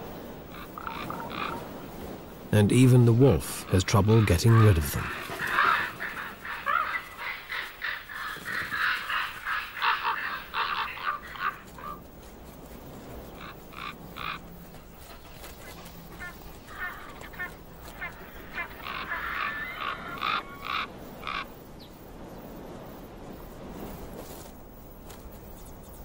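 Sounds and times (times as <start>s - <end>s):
ravens croaking: 0.0s - 21.7s.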